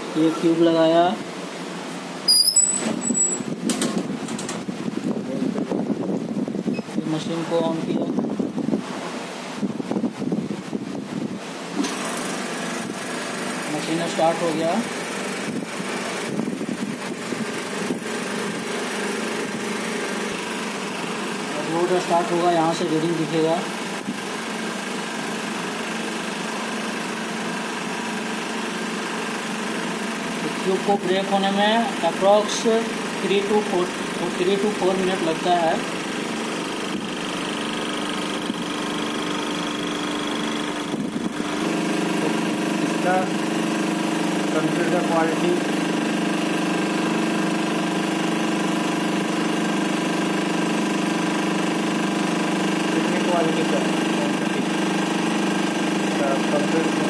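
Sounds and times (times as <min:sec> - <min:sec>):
hydraulic pump humming: 0:00.0 - 0:57.0.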